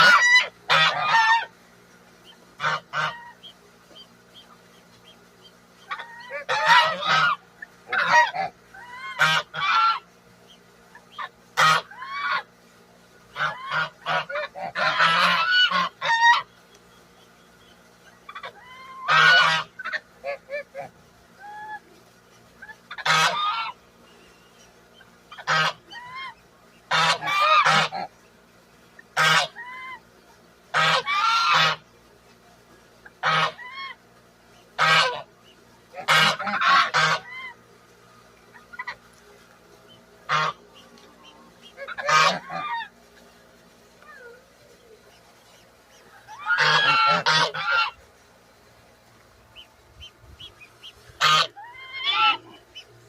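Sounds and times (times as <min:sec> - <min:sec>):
geese honking: 0:00.0 - 0:53.0.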